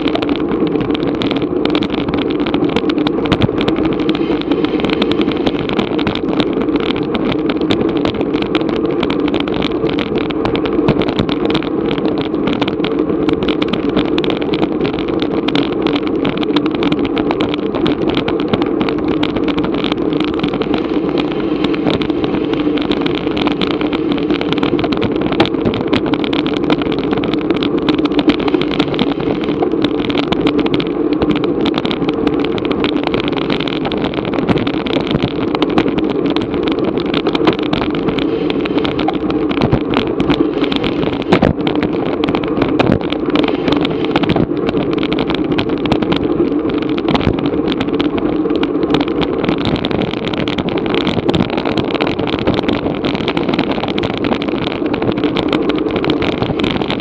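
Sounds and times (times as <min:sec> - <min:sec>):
road rumble: 0:00.0 - 0:57.0
small rattles and ticks: 0:00.0 - 0:57.0
wind rush: 0:00.0 - 0:57.0.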